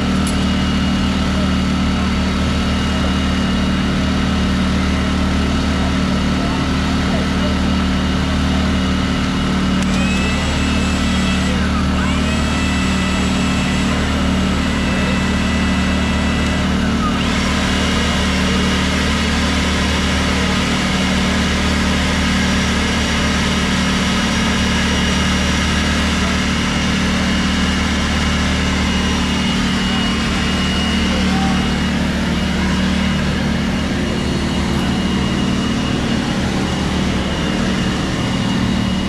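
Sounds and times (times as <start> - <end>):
engine drone with high whine: 0.0 - 39.0.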